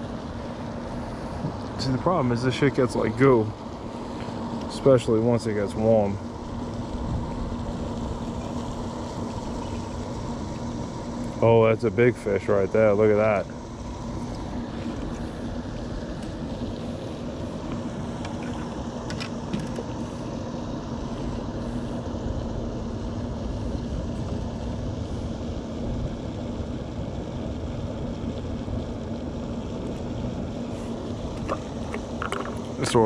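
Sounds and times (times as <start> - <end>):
constant low hum: 0.0 - 33.0
low rumble and hiss: 0.0 - 33.0.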